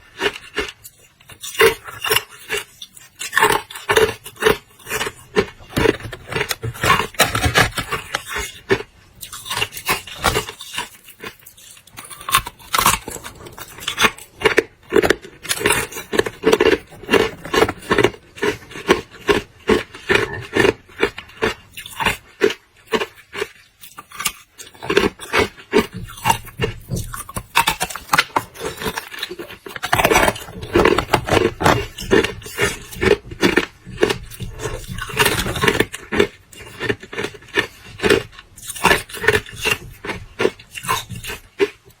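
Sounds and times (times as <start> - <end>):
person crunching ice: 0.0 - 41.9.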